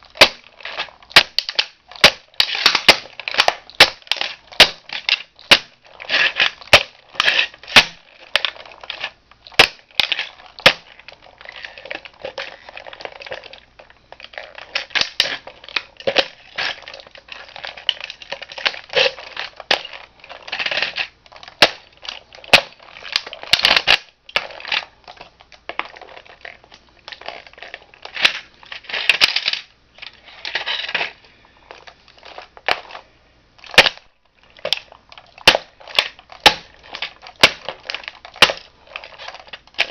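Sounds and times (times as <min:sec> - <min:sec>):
toy car cracking and crunching: 0:00.0 - 0:39.9.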